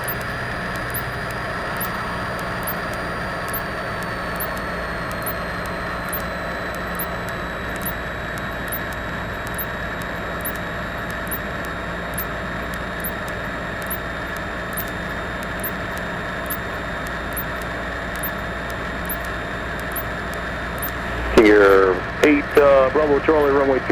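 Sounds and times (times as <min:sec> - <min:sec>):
faint high ticking: 0:00.0 - 0:23.8
airplane engine droning: 0:00.0 - 0:23.9.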